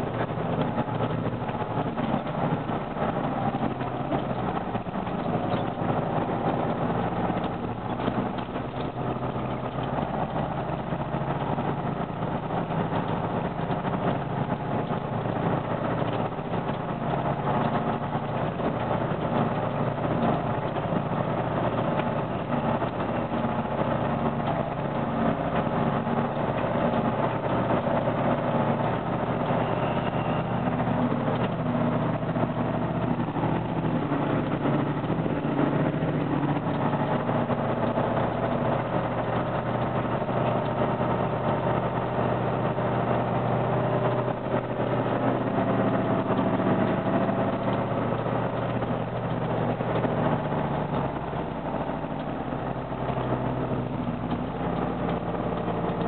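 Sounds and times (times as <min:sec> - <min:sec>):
truck diesel engine running: 0:00.0 - 0:56.0.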